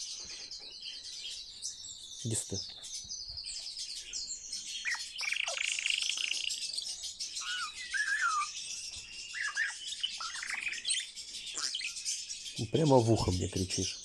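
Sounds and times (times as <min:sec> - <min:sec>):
starling singing: 0:01.6 - 0:14.0.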